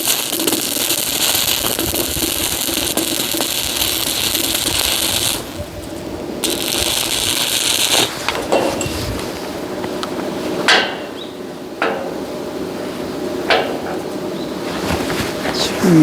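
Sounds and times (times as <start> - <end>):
electric arc welding crackle: 0.0 - 14.3.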